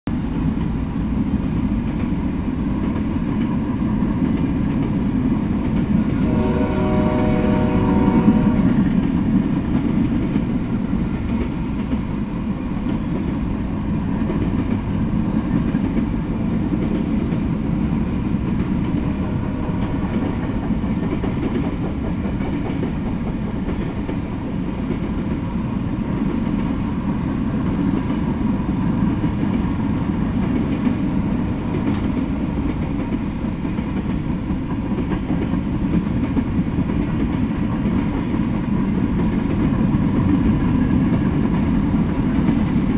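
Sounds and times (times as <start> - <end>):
freight train rolling past: 0.1 - 42.9.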